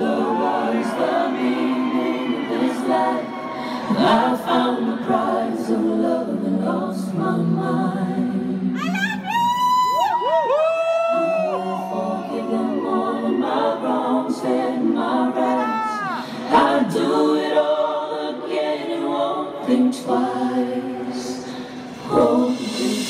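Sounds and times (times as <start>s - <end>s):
choir backing harmonies: 0.0s - 9.5s, 10.2s - 23.0s.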